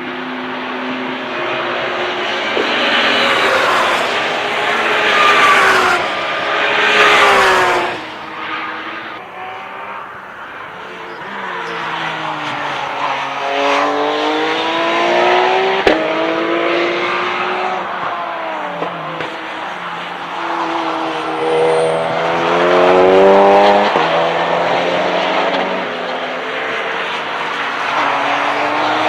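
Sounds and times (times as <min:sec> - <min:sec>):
race cars passing at high revs: 0:00.0 - 0:29.0
engine revving under acceleration: 0:01.1 - 0:10.0, 0:10.7 - 0:29.0.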